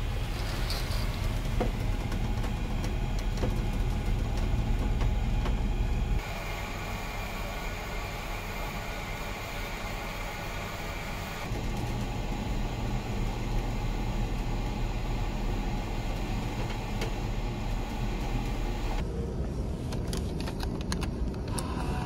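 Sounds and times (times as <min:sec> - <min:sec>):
ship engines droning: 0:00.0 - 0:19.7.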